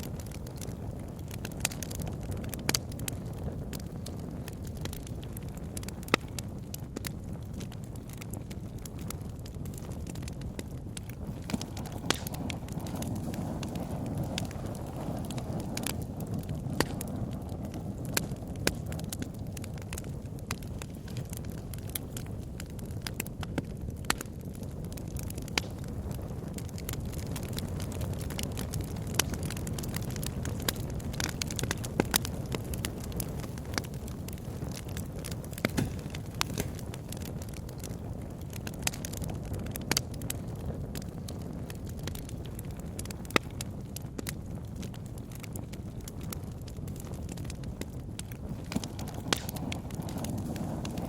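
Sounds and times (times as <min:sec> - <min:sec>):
bonfire crackling and popping: 0:00.0 - 0:51.0
low rush of fire: 0:00.0 - 0:51.0.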